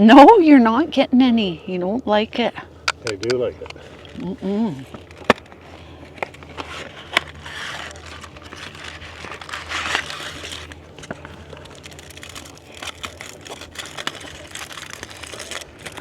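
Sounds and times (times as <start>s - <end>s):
sharp clicks and crackles: 2.8s - 16.0s
plastic crinkling and rustling: 3.0s - 16.0s.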